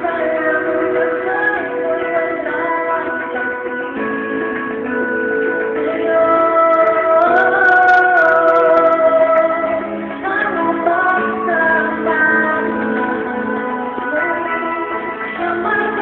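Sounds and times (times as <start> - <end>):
karaoke backing track: 0.0 - 16.0
woman singing ballad: 0.0 - 16.0.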